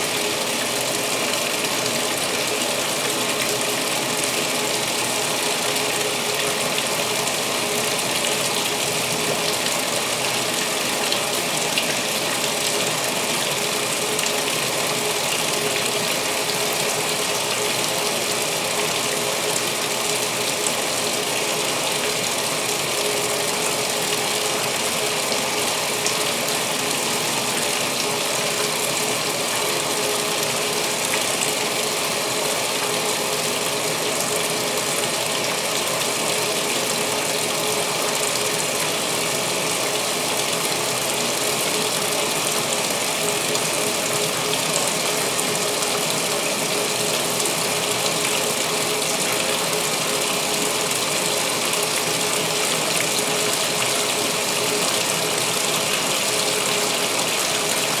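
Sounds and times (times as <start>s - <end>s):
washing machine hum: 0.0s - 58.0s
water rushing into washer tub: 0.0s - 58.0s.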